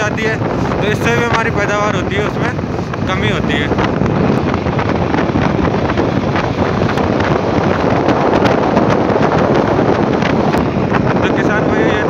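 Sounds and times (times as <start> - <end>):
wind buffeting microphone: 0.0 - 12.0
vehicle running: 0.5 - 12.0.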